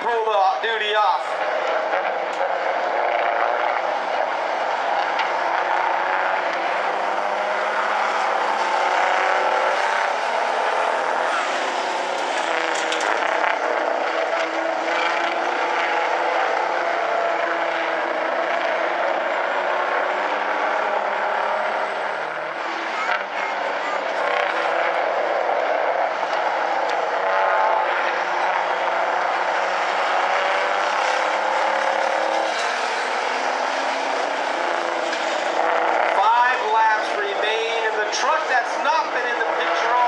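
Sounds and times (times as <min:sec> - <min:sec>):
truck engines roaring: 0:00.0 - 0:40.0.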